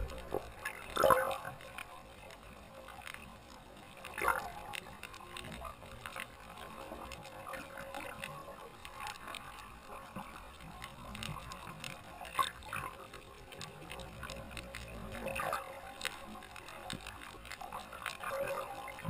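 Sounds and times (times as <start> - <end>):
underwater crackling clicks: 0.0 - 19.0.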